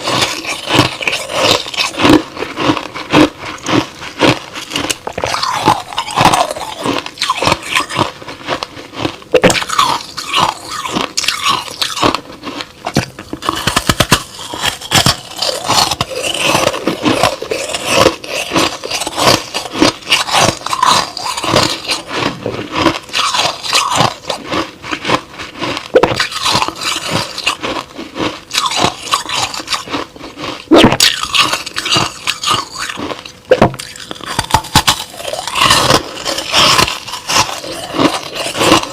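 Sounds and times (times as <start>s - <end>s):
crushed ice being chewed: 0.0s - 38.9s.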